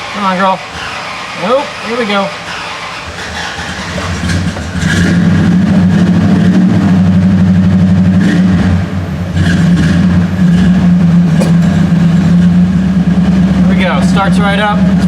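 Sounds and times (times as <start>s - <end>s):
engine cranking: 0.0s - 7.4s, 9.3s - 15.0s
engine running: 0.0s - 15.0s.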